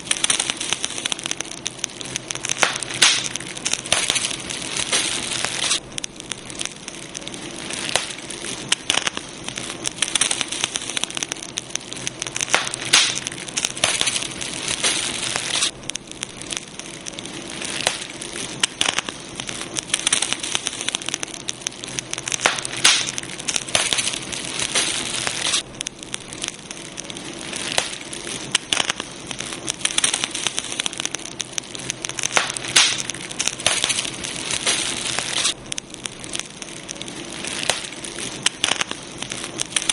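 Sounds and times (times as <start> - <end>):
steady fire hiss: 0.0 - 39.9
wood crackling and popping: 0.0 - 39.9.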